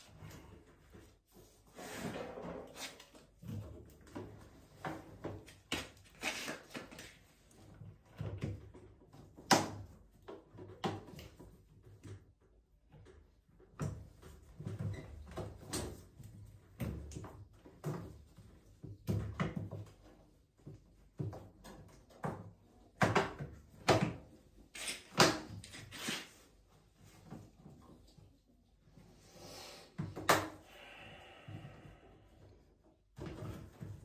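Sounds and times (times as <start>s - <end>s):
knocks clicks and scrapes of hand work: 0.0s - 29.0s, 32.4s - 34.0s.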